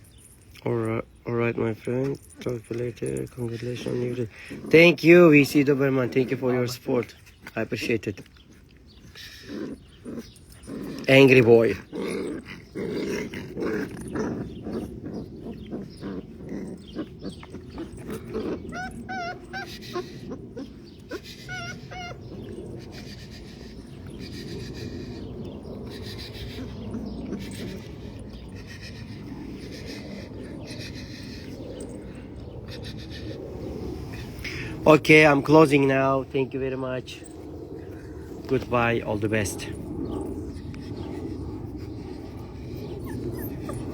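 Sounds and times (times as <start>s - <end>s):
puppies whimpering: 1.6s - 43.9s.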